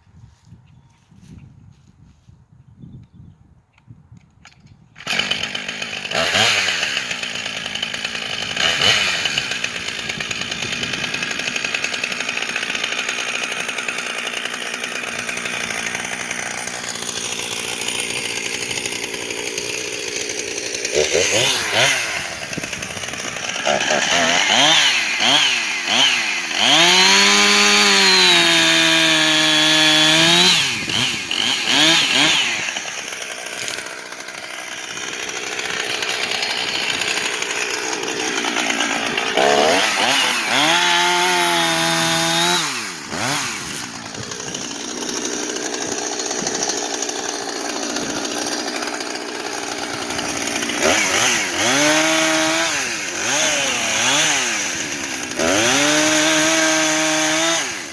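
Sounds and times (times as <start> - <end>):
chainsaw engine revving and idling: 5.0 - 57.9.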